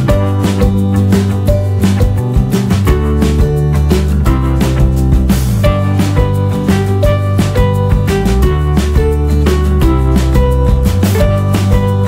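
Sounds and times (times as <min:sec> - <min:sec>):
instrumental background music: 0:00.0 - 0:12.0
low bass tones: 0:00.0 - 0:12.0.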